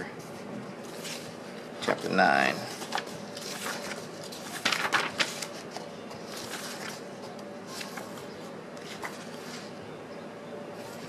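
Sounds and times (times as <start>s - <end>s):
paper pages turning: 0.8s - 9.8s.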